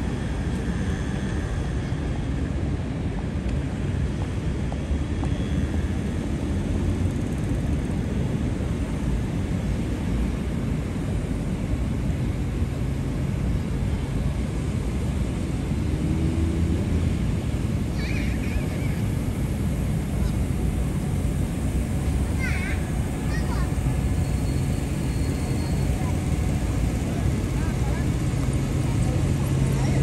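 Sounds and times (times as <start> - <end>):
city traffic rumble: 0.0 - 30.0.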